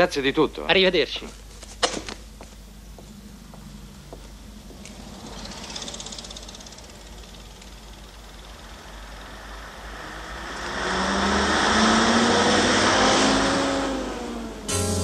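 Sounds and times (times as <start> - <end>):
road noise: 1.4 - 15.0
bus engine drone: 2.2 - 15.0.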